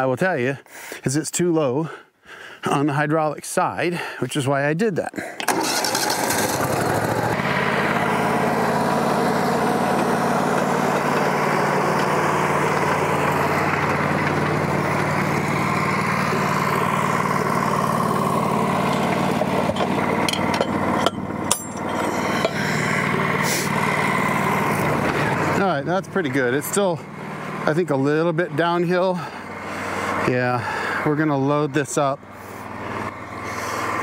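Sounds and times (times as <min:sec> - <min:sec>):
sawmill engine running: 0:05.4 - 0:34.0.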